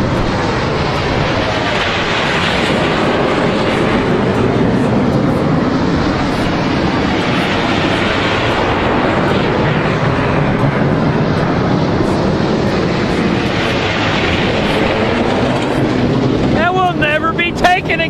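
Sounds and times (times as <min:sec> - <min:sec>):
jet flying past: 0:00.0 - 0:18.0.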